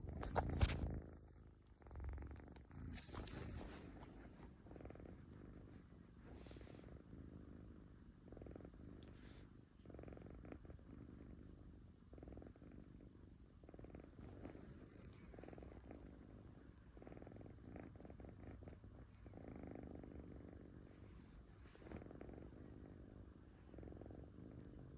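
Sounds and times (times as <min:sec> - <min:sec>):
kitten purring: 0:00.0 - 0:24.9.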